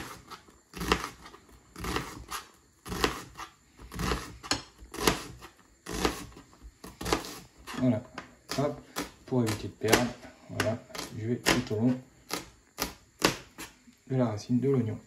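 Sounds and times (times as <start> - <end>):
knife chopping on cutting board: 0.8 - 7.8, 8.5 - 13.7.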